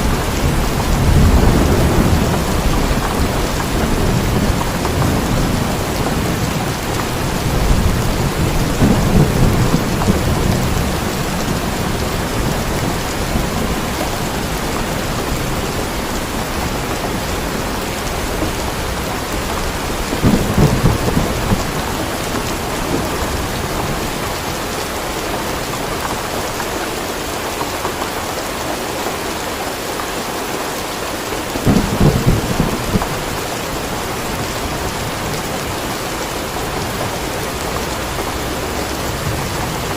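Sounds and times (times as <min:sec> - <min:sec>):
thunder rumbling: 0:00.0 - 0:26.7, 0:31.4 - 0:39.9
heavy rain: 0:00.0 - 0:39.9.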